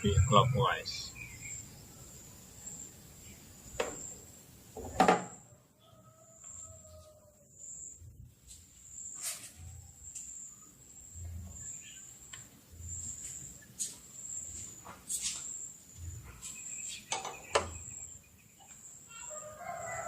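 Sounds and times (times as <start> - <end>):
high insect drone: 0.0 - 5.4, 6.3 - 20.0.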